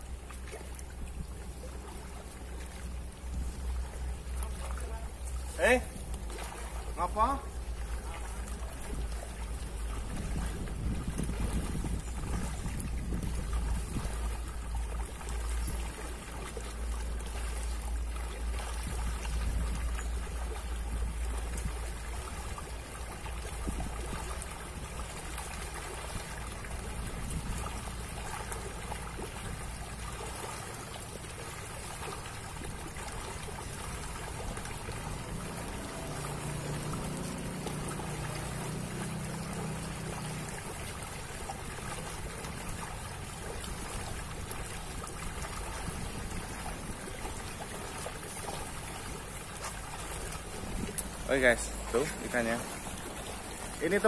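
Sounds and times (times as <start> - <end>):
fish splashing at water surface: 0.0 - 54.0.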